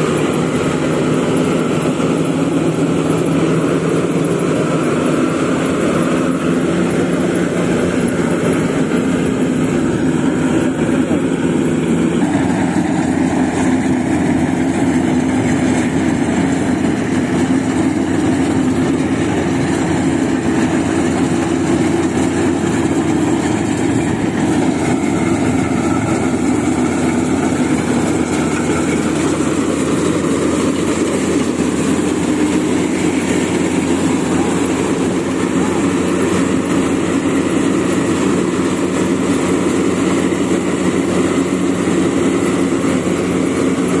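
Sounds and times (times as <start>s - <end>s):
combine harvester engine drone: 0.0s - 44.0s.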